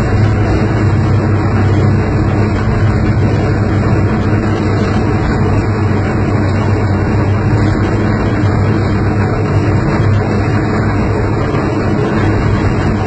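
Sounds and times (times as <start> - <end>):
diesel locomotive droning: 0.0 - 13.0.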